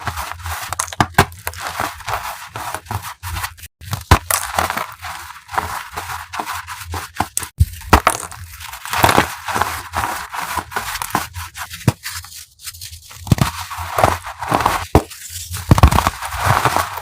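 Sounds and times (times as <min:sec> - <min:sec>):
chalk being crushed: 0:00.0 - 0:17.0.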